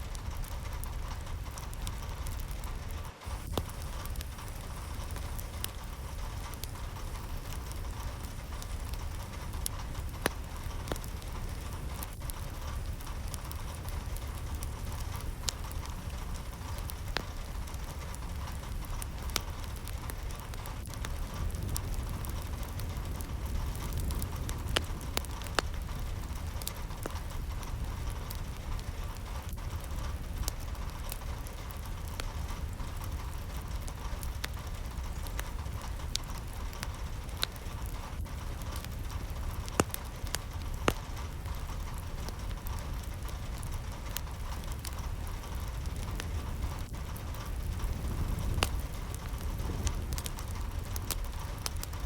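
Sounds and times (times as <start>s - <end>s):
low even rumble: 0.0s - 52.0s
steady rain falling: 0.0s - 52.0s.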